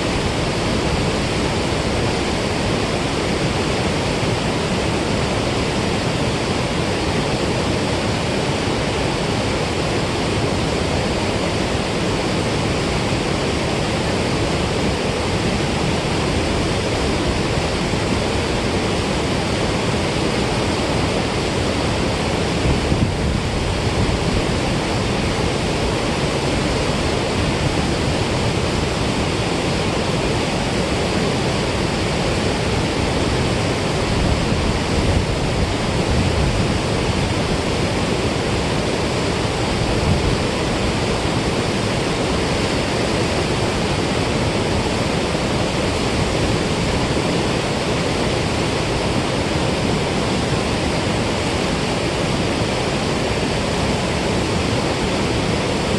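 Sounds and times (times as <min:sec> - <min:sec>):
water rushing from spillway: 0:00.0 - 0:55.9.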